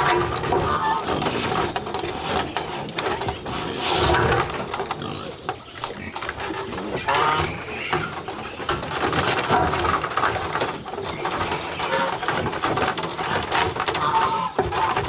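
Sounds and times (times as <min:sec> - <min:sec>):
clatter of small knocks: 0:00.0 - 0:15.0
farm animal calls: 0:00.0 - 0:15.0
noisy rustle: 0:00.0 - 0:15.0.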